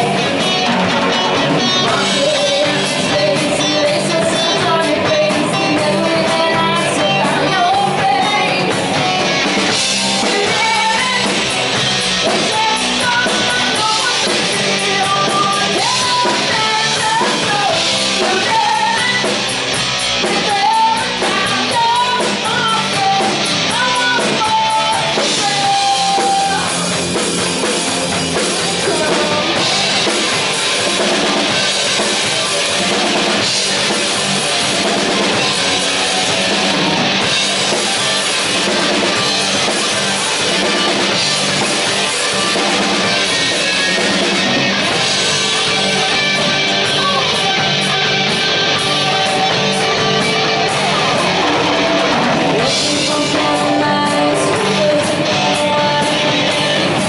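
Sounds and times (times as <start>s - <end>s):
person singing: 0.0s - 9.2s, 10.1s - 27.3s, 28.4s - 33.0s, 37.8s - 57.0s
drum kit: 0.0s - 57.0s
electric guitars: 0.0s - 57.0s.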